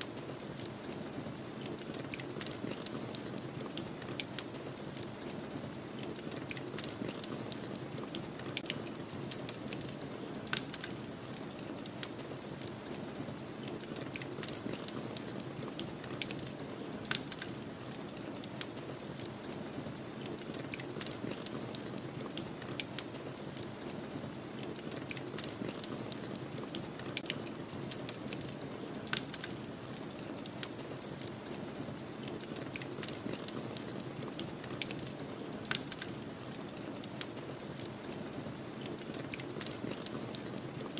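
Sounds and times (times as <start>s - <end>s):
fire popping and snapping: 0.0s - 40.9s
wood fire crackling: 0.0s - 40.9s.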